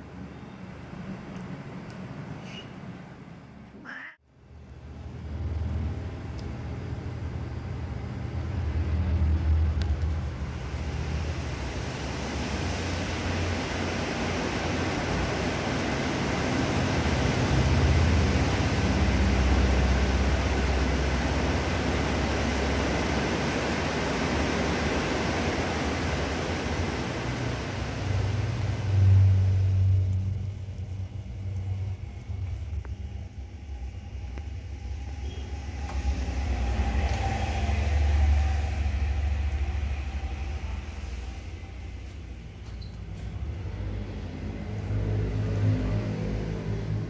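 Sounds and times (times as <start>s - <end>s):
low rumbling background noise: 0.0s - 47.0s
low hum: 4.4s - 47.0s.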